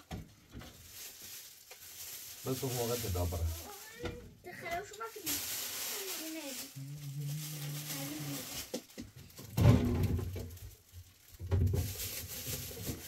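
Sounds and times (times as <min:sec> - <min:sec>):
food and bags being handled: 0:00.0 - 0:13.0.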